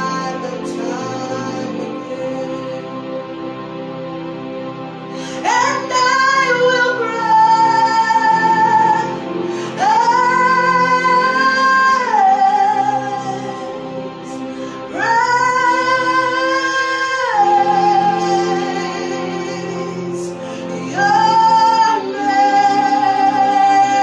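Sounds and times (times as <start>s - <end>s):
woman singing: 0.0s - 2.9s, 5.3s - 24.0s
musical accompaniment: 0.0s - 24.0s.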